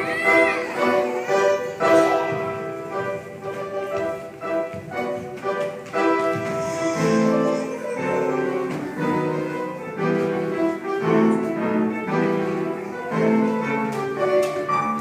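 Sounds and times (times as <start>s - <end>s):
instrumental classical music: 0.0s - 15.0s.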